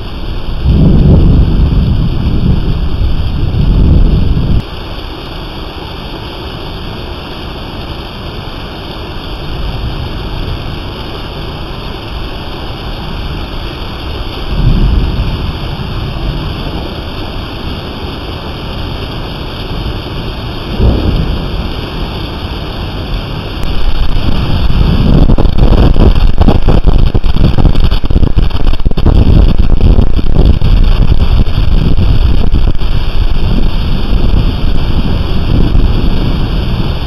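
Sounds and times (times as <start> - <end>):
low rumbles: 0.0 - 7.0, 9.2 - 37.0
steady rain: 0.0 - 37.0.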